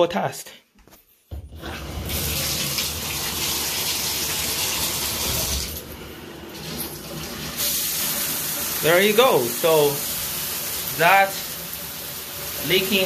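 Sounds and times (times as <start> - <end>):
water gushing from bathtub spout: 1.4 - 13.0.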